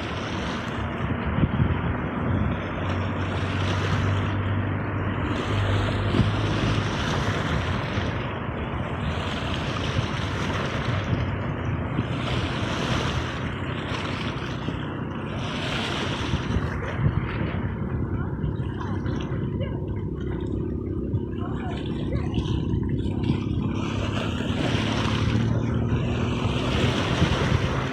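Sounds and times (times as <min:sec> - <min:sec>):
low steady hum: 0:00.0 - 0:27.9
sea waves washing in: 0:00.0 - 0:27.9.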